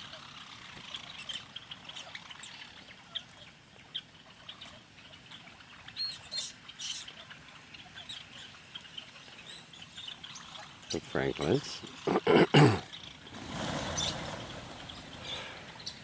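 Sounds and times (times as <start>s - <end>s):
high bird calls: 0.0s - 16.0s
small birds chirping: 0.0s - 16.0s.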